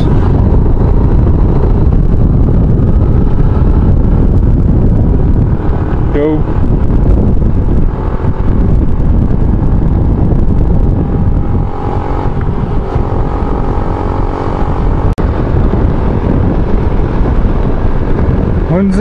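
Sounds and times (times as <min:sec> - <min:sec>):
motorcycle engine running: 0:00.0 - 0:19.0
wind rush on microphone: 0:00.0 - 0:19.0.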